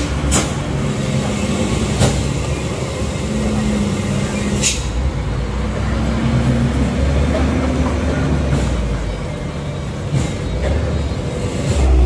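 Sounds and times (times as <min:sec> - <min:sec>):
diesel truck engine rumble: 0:00.0 - 0:12.0.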